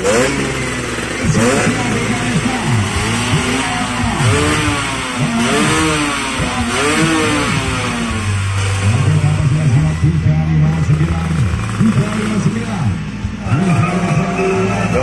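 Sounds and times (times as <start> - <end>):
scooter engine revving: 0.0 - 15.0.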